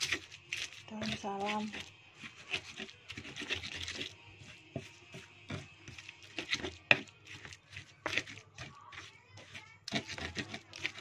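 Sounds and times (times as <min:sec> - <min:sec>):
pestle scraping in mortar: 0:00.0 - 0:11.0.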